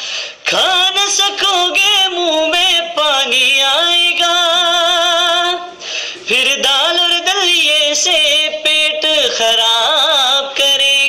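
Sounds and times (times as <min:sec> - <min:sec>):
person singing without words: 0:00.4 - 0:11.0.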